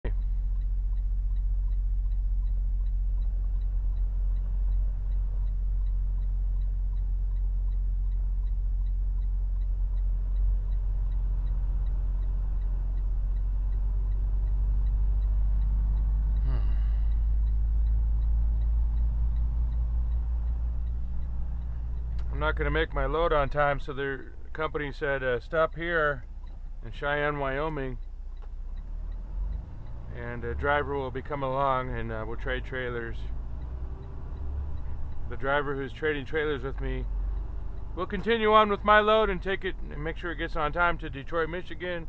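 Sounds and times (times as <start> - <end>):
diesel truck engine running: 0.0 - 42.0
faint regular ticking: 0.0 - 42.0.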